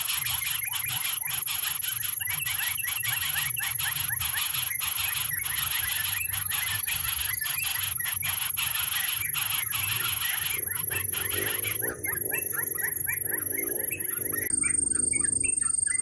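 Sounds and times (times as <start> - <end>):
high-pitched whine: 0.0 - 16.0
insects and frogs chirping: 0.0 - 16.0.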